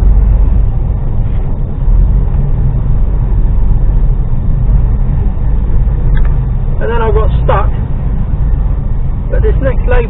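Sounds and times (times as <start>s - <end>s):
diesel truck engine droning: 0.0s - 10.0s.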